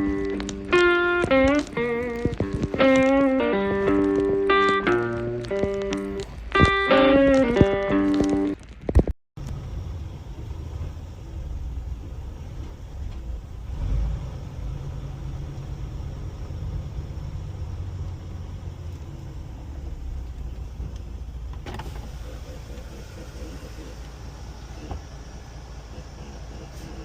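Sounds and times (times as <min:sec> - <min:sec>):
vehicle rumbling on road: 0:00.0 - 0:27.0.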